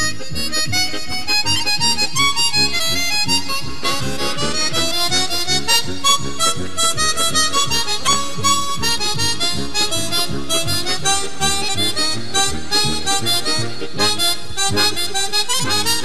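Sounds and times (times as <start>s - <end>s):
harmonica music: 0.0s - 16.0s.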